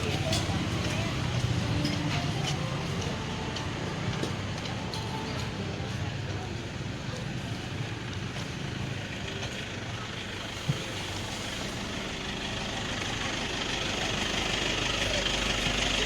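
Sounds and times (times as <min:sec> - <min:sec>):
street traffic noise: 0:00.0 - 0:16.0
vehicle engine idling: 0:00.0 - 0:16.0.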